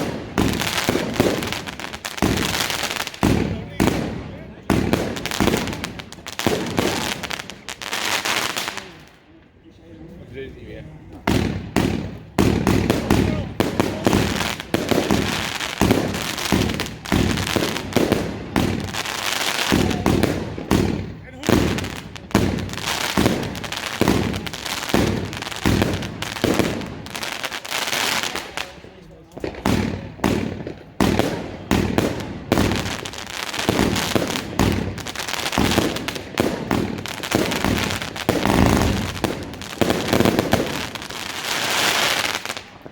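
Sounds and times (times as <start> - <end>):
fireworks firing sharp reports: 0.0 - 9.2, 11.1 - 42.9.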